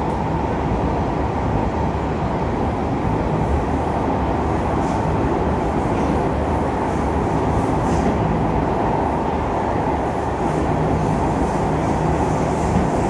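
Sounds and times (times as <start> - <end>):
metro train rumble on rails: 0.0 - 13.0.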